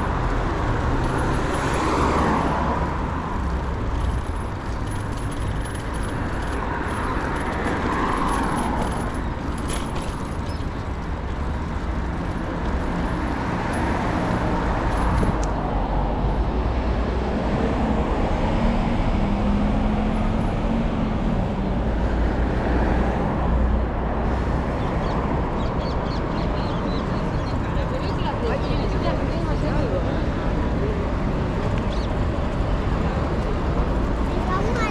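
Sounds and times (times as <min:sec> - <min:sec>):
engine hum: 0:00.0 - 0:25.7, 0:30.6 - 0:34.9
road traffic passing: 0:00.0 - 0:34.9.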